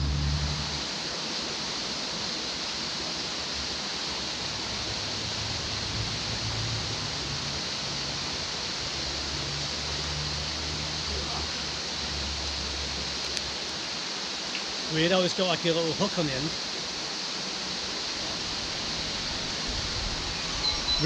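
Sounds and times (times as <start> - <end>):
water rushing over weir: 0.0 - 21.0.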